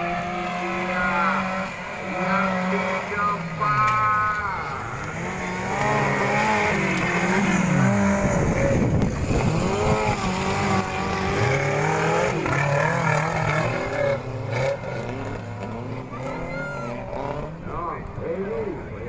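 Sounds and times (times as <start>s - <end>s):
off-road vehicle engines revving: 0.0s - 19.0s
vehicle passing close: 0.0s - 19.0s.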